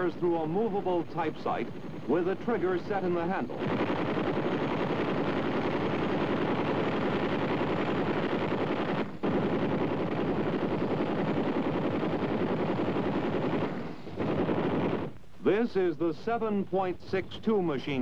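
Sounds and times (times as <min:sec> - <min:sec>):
machine guns firing bursts: 0:00.0 - 0:15.2.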